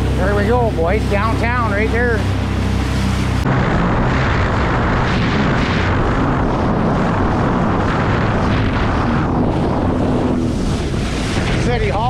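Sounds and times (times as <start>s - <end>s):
personal watercraft engine: 0.0s - 12.0s
rush of hull spray: 0.0s - 12.0s
wind buffeting on microphone: 0.0s - 12.0s.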